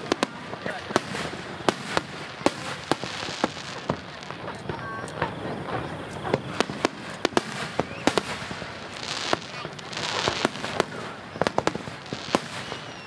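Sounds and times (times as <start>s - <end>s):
fireworks bursting with bangs: 0.0s - 13.0s
fireworks crackle: 0.0s - 13.0s.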